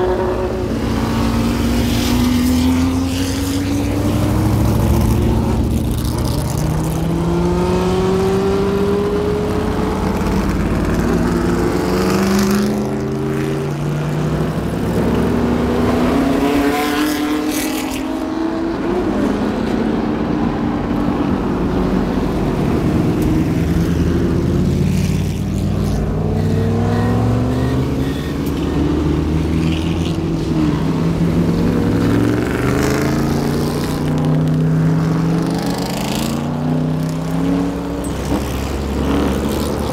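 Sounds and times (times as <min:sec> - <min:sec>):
race car engines accelerating: 0:00.0 - 0:39.9.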